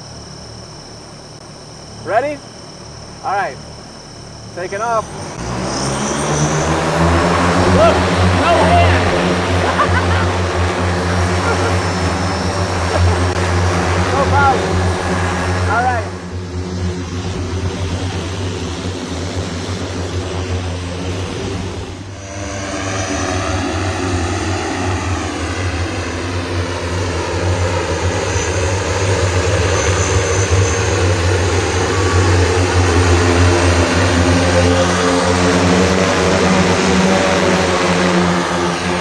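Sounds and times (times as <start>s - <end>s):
multirotor aircraft droning: 0.0s - 39.0s.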